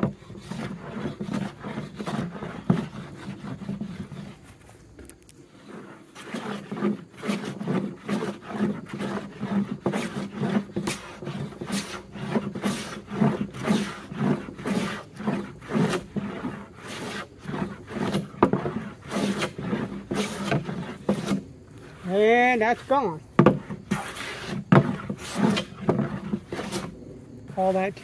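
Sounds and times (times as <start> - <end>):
hand plane shaving wood: 0.0 - 4.6, 5.5 - 26.9.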